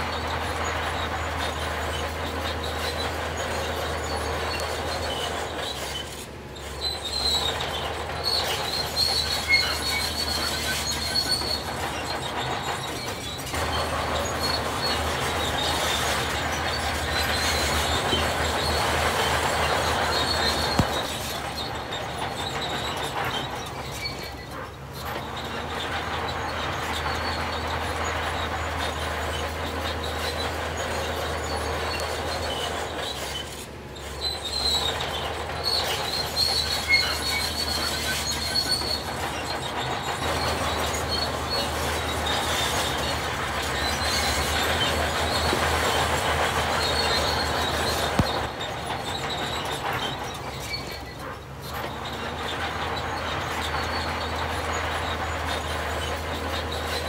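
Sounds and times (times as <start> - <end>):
heavy machinery engine hum: 0.0 - 57.0
high-pitched metallic squeaks: 0.0 - 57.0.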